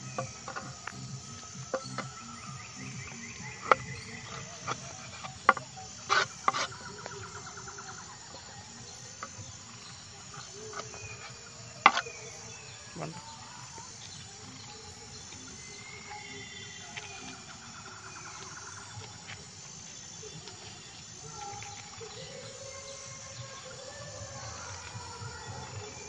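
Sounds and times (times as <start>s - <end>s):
night insects trilling: 0.0s - 26.0s.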